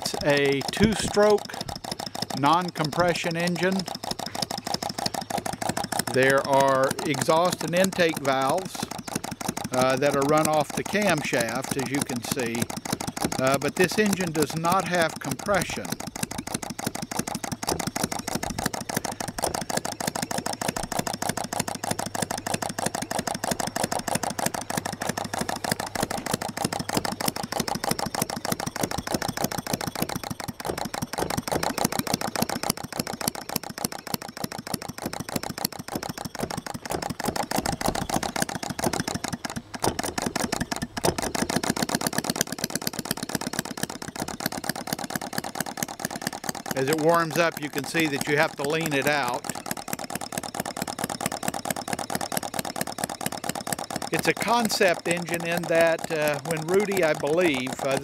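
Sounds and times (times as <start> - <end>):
model engine ticking: 0.0 - 58.0.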